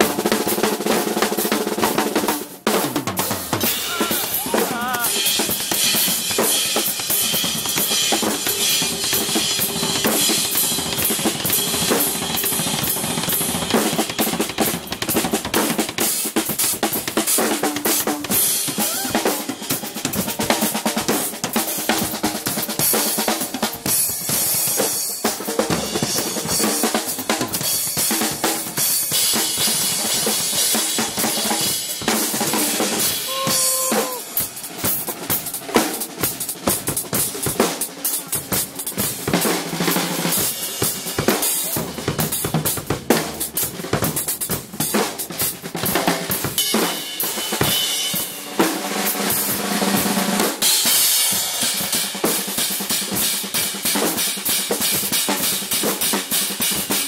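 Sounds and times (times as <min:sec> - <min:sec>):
drum kit solo: 0:00.0 - 0:57.0.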